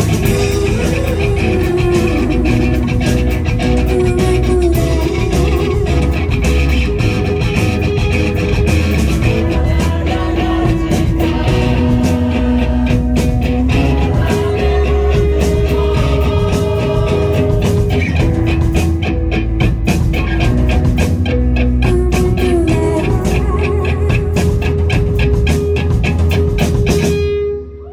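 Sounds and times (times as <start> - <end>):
rock band playing live: 0.0 - 27.6
electric guitars holding long notes: 0.0 - 27.9.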